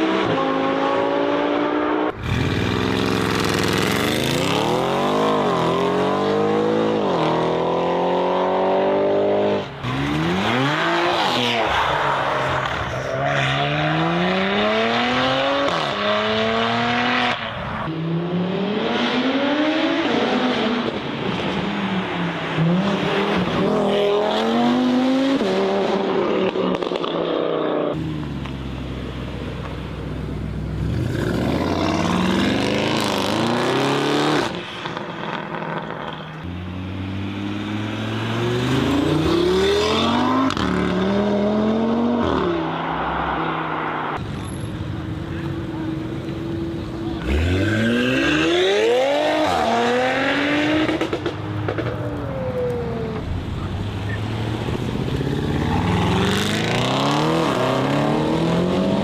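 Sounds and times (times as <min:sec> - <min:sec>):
car engines accelerating hard: 0:00.0 - 0:29.5, 0:30.1 - 0:59.0.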